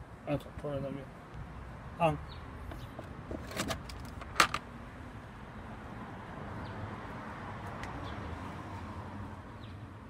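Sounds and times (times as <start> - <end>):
distant traffic hum: 0.0 - 10.0.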